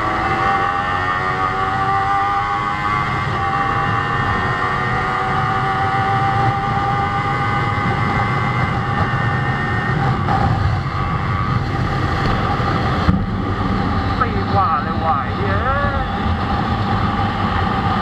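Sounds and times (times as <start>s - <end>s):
motorcycle engine at high revs: 0.0s - 18.0s.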